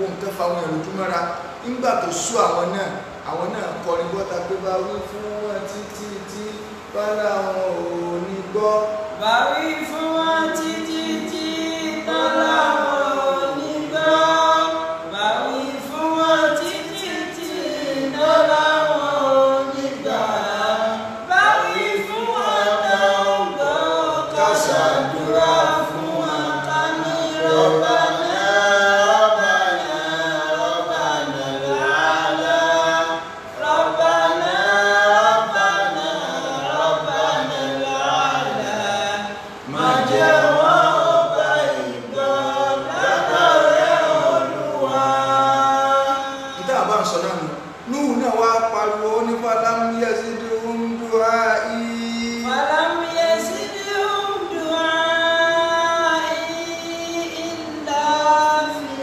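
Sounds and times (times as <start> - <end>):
man chanting: 0.0 - 59.0.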